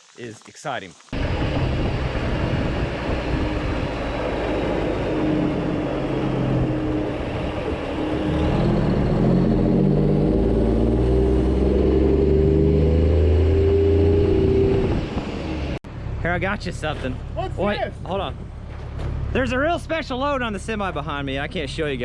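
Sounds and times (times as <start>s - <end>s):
vehicle engine running: 1.2s - 22.0s.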